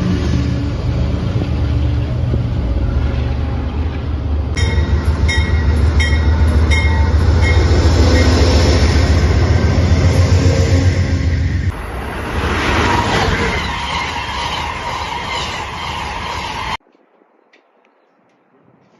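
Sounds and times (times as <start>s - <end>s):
train rumbling past: 0.0s - 16.8s.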